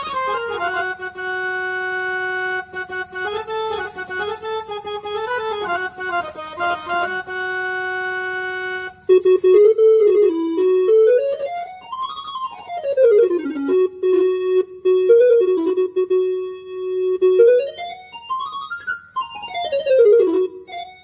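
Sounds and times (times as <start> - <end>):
portable keyboard notes: 0.0 - 21.0.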